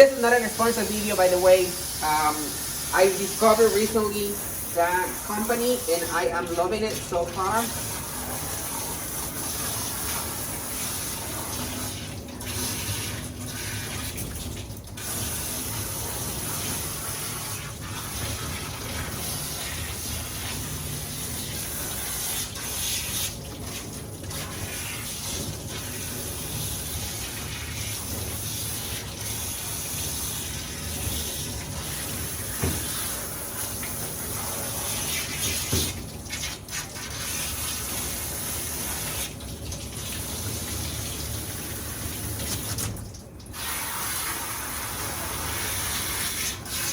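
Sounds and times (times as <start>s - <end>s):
tap water running into sink: 0.0s - 46.9s.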